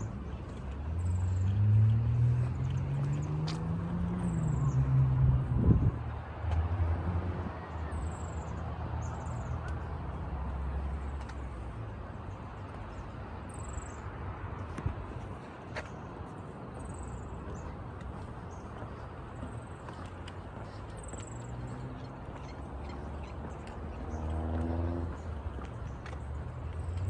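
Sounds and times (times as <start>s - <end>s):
vehicle engine hum: 0.0s - 27.0s.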